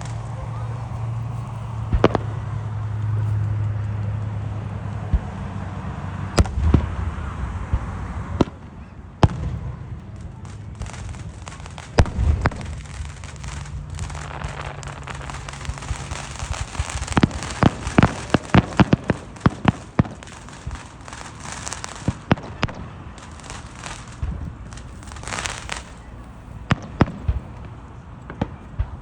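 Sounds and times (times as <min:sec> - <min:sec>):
firework bangs: 0:00.0 - 0:29.0
firework crackling pops: 0:00.0 - 0:29.0.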